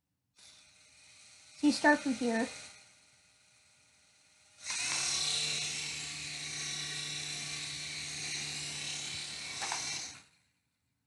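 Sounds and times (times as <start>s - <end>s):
toy helicopter rotor whir: 0.4s - 10.7s.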